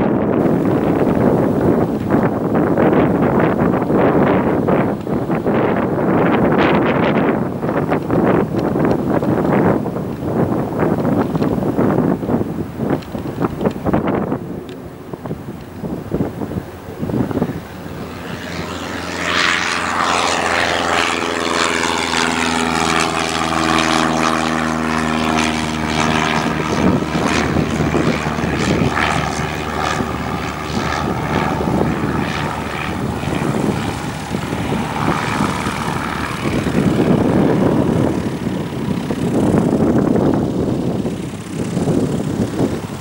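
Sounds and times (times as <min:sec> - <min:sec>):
propeller aircraft engine drone: 0:00.0 - 0:43.0.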